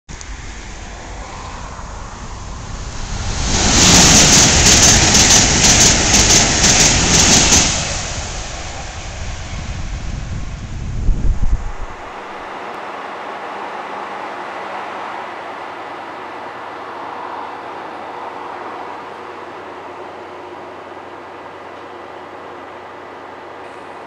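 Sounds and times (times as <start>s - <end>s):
train wheels rumbling on rails: 0.2s - 24.0s.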